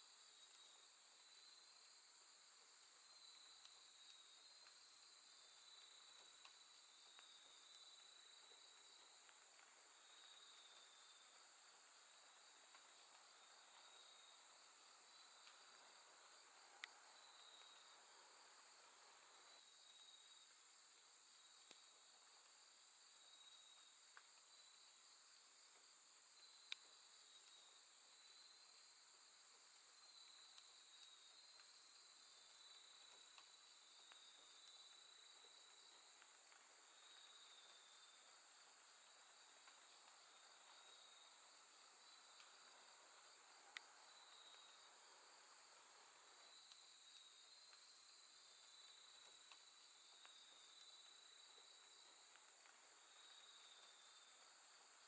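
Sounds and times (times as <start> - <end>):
insects chirping: 0.2 - 55.0.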